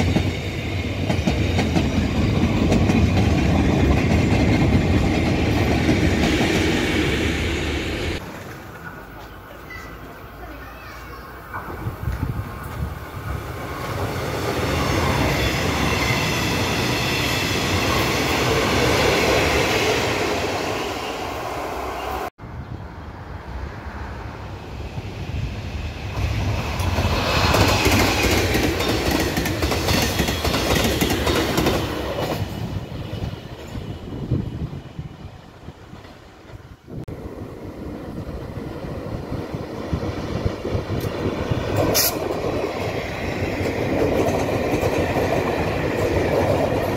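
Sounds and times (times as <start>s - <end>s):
train clickety-clack over rail joints: 0.0s - 20.6s, 25.4s - 46.9s
train wheels on rails: 0.0s - 22.3s, 23.6s - 46.9s.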